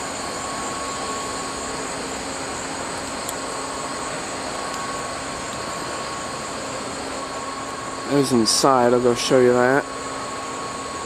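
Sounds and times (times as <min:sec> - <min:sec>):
air handling hum and hiss: 0:00.0 - 0:11.0
faint steady tone: 0:00.0 - 0:11.0.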